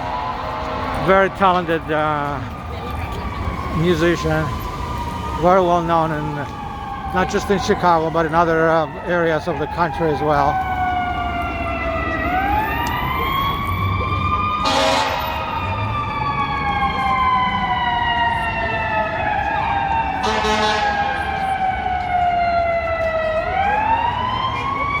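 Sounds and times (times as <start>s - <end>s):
loud siren blasts: 0.0s - 25.0s
siren wailing: 0.0s - 25.0s.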